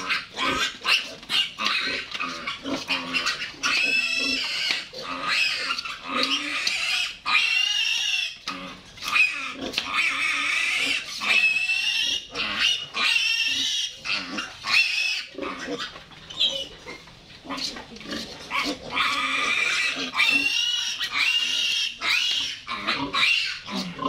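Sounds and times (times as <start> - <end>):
piglet squealing: 0.0 - 17.0, 18.5 - 24.0.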